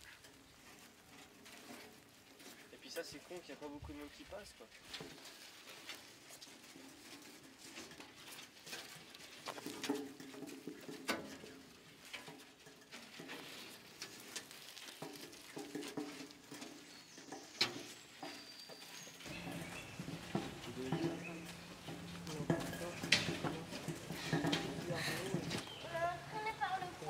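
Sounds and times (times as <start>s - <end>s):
steel edge scraping through soil: 0.0s - 26.9s.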